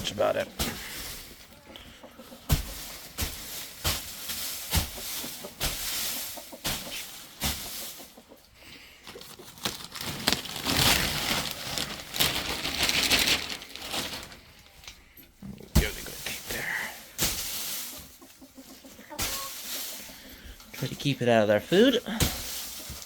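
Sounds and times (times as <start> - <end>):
wood shavings rustling: 0.0 - 15.0, 15.7 - 23.0.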